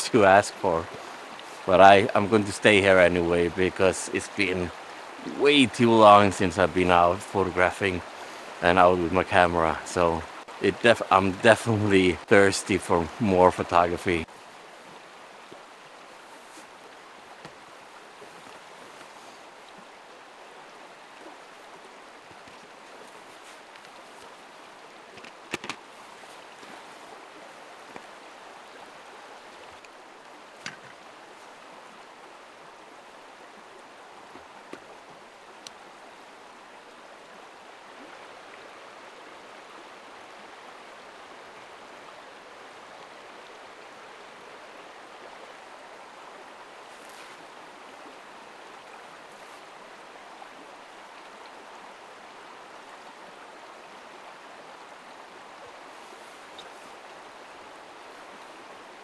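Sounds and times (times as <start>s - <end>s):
river water running over stones: 0.0s - 59.0s.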